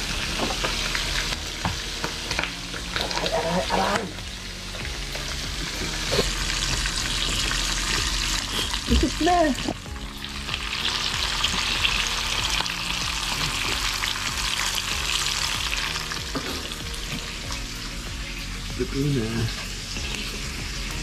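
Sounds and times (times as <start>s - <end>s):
squid sizzling in hot oil: 0.0s - 21.0s.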